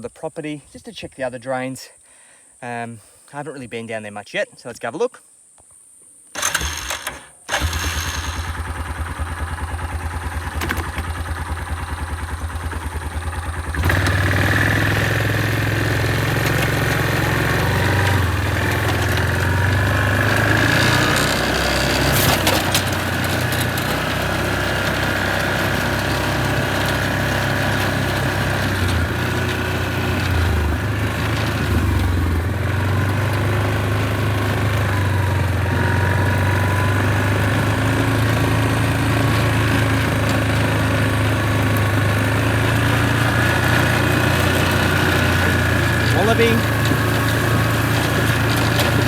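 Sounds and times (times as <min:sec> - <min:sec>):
small engine running: 0:06.4 - 0:49.0.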